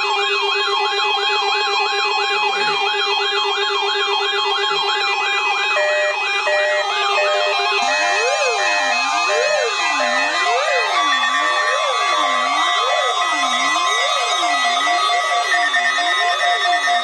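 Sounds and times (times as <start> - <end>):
electronic siren wailing: 0.0 - 17.0.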